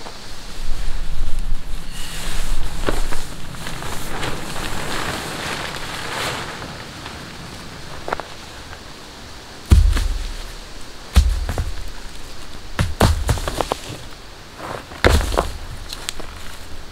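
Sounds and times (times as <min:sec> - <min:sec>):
tarp fabric rustling: 0:02.2 - 0:16.9.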